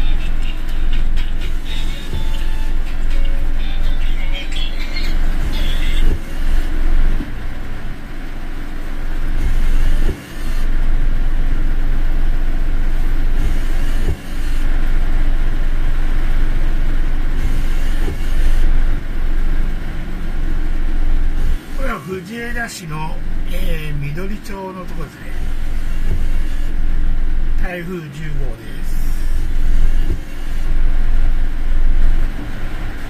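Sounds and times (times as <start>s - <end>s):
car driving road and engine noise: 0.0s - 33.0s.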